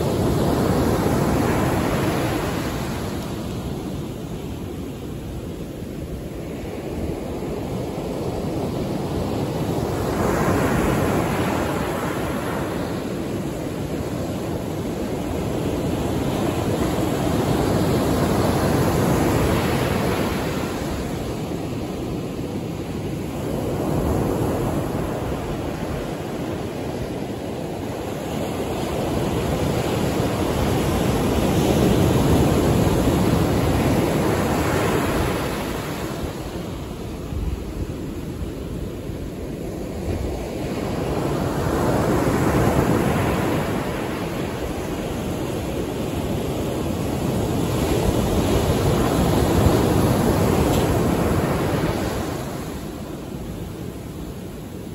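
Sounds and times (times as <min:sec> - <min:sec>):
ocean surf washing on beach: 0:00.0 - 0:54.9.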